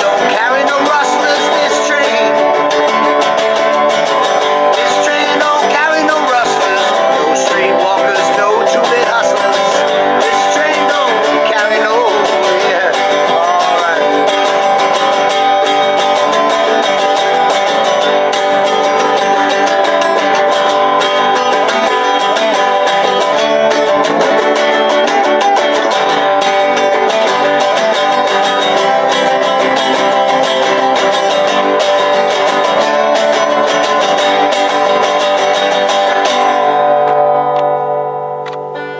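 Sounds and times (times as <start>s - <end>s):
harmonica playing: 0.0s - 36.5s
banjo: 0.0s - 38.9s
resonator guitar strumming: 0.0s - 38.9s.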